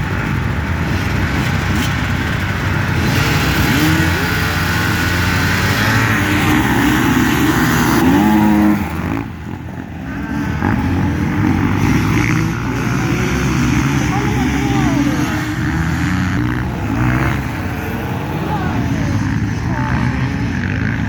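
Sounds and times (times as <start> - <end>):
small engine revving: 0.0 - 21.0.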